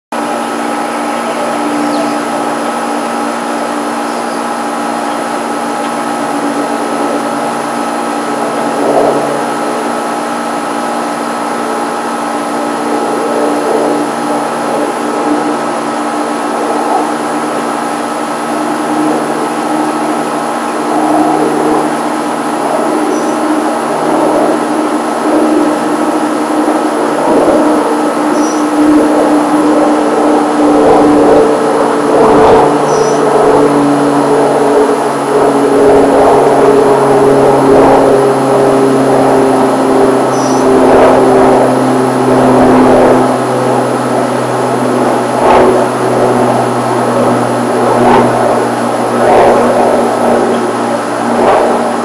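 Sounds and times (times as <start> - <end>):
aircraft droning overhead: 0.1 - 52.0.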